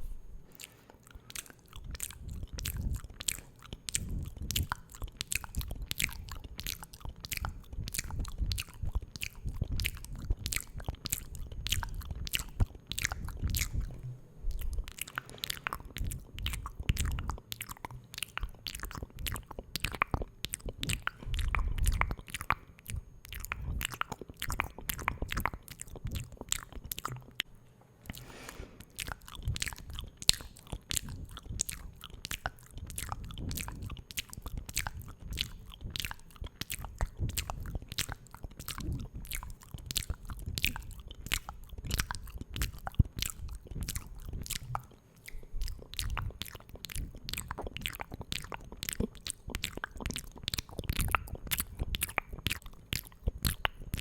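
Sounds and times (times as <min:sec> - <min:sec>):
wet mouth clicks: 0:00.0 - 0:54.0.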